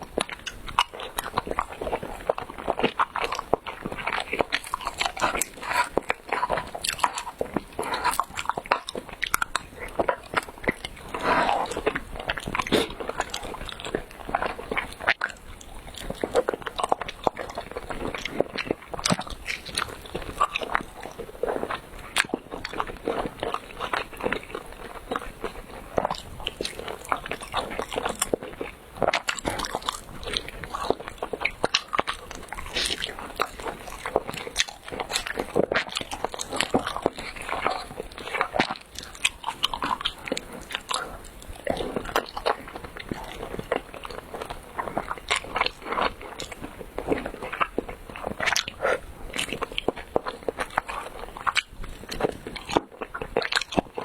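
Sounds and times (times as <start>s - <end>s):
chewing with mouth clicks: 0.0s - 54.0s.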